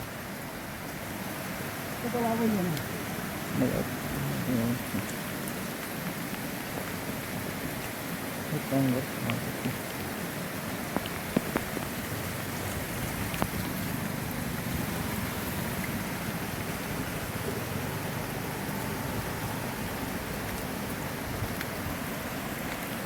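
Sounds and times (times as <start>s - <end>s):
heavy rain: 0.0s - 23.0s
raindrops tapping nearby: 0.0s - 23.0s.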